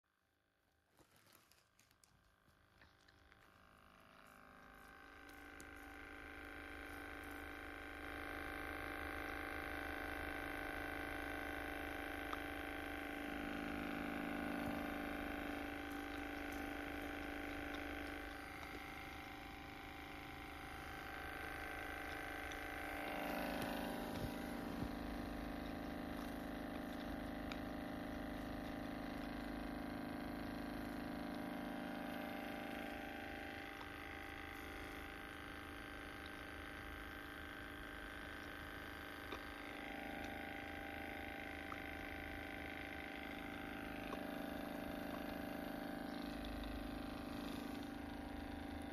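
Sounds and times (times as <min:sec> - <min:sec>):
massage gun motor hum: 0:00.7 - 0:48.9.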